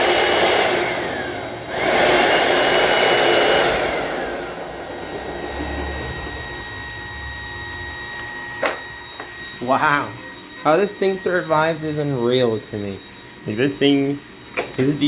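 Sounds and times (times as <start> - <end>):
vacuum cleaner motor: 0.0 - 15.0.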